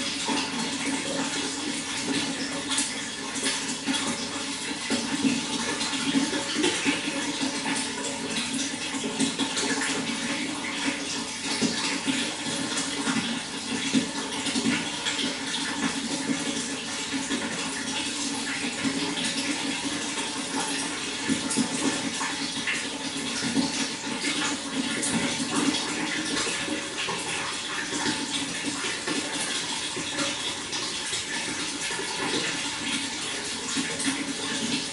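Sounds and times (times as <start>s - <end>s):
running water splashing: 0.0s - 34.9s.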